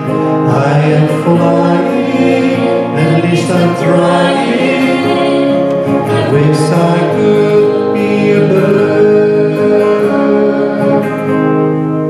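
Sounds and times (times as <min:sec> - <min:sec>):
person singing: 0:00.0 - 0:11.7
strummed acoustic guitars: 0:00.0 - 0:12.0.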